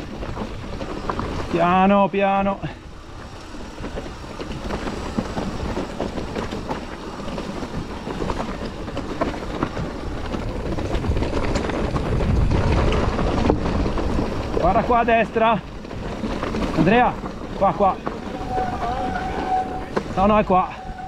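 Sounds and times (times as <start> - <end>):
bike chain and frame rattling: 0.0 - 21.0
bike tyres crunching over stones: 0.0 - 21.0.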